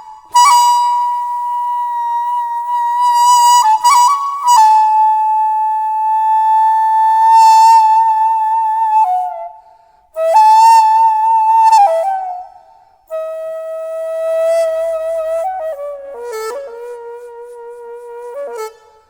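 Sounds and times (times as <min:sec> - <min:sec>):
bamboo flute playing: 0:00.0 - 0:19.0.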